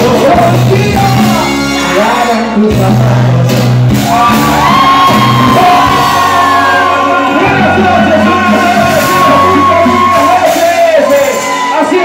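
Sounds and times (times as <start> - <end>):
live band playing loudly: 0.0 - 12.0.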